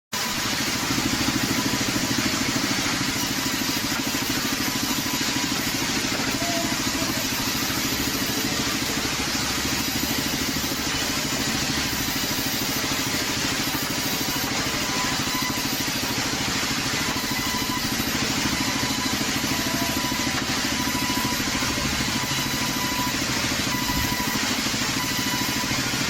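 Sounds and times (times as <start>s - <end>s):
cutting machine running: 0.2s - 26.0s.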